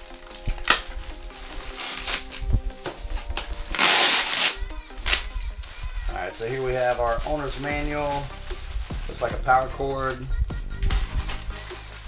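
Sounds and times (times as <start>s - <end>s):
background music: 0.0s - 12.0s
packaging rustling: 0.0s - 12.0s.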